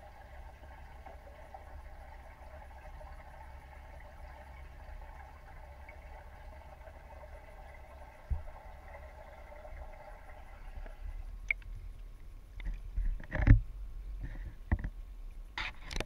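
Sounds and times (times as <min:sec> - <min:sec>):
underwater hum: 0:00.0 - 0:16.0.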